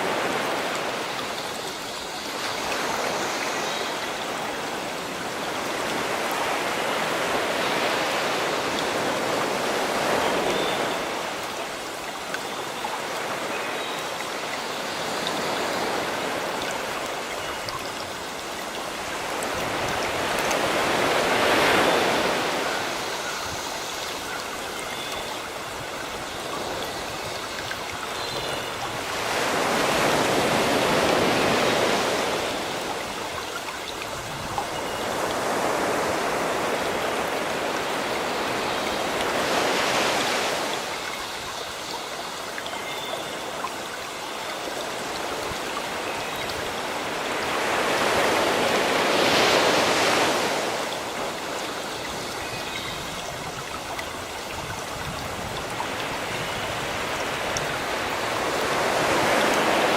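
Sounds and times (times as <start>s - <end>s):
sea waves washing on shore: 0.0s - 59.9s.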